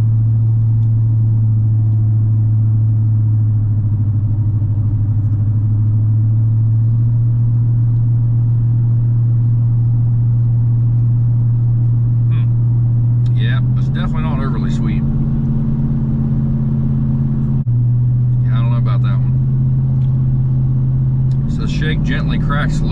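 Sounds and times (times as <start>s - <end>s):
car engine hum from inside: 0.0s - 22.9s.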